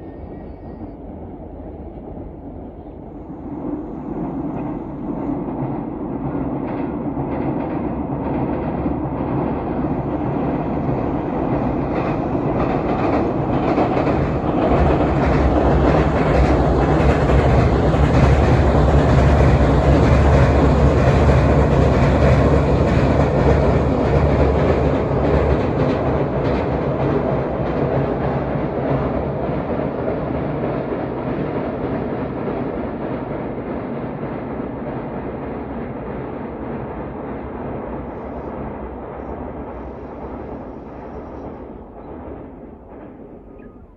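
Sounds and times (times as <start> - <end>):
freight train passing: 0.0 - 43.9.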